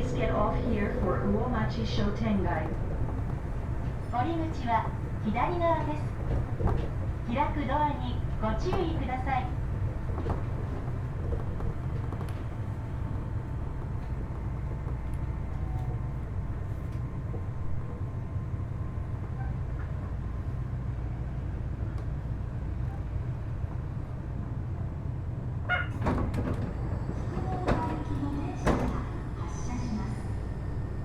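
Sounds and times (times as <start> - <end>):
monorail train low rumble: 0.0 - 31.0.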